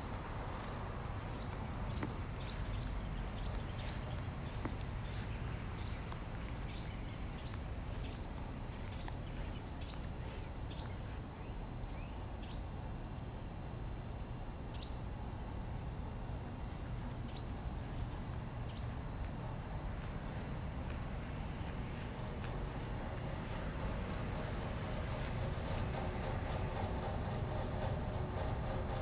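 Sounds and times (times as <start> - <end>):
faint high insect whine: 0.0 - 29.0
small birds chirping: 0.1 - 12.8, 16.6 - 29.0.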